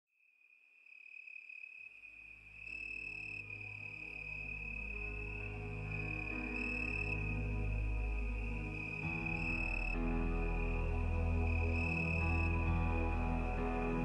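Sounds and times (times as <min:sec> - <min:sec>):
soft ambient music: 0:02.4 - 0:14.0.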